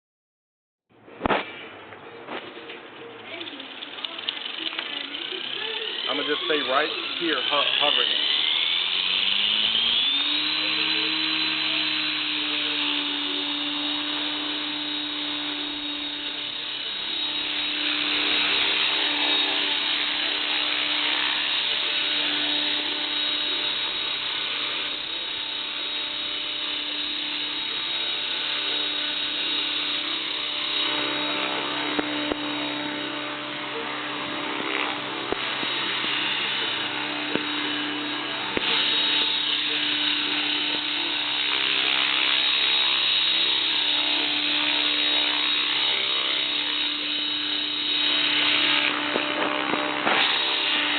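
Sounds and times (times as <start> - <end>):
rc helicopter rotor and motor whine: 2.1 - 50.9.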